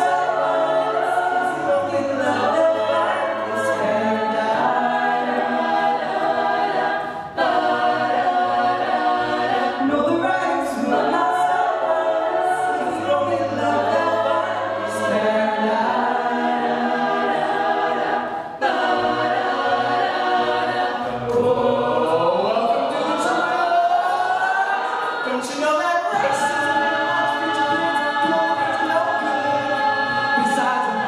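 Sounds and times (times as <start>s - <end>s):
soloists singing on microphones: 0.0s - 31.0s
sustained backing vocals: 0.0s - 31.0s.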